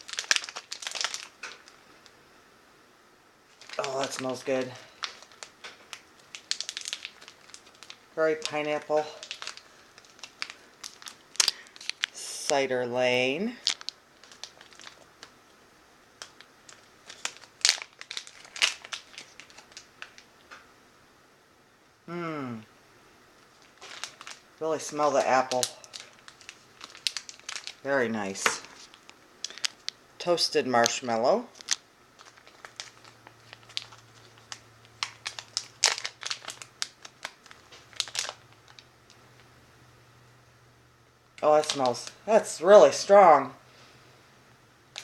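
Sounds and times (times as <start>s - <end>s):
packaging crinkling: 0.0s - 2.2s, 3.5s - 15.5s, 16.1s - 20.6s, 23.4s - 39.5s, 41.4s - 43.1s.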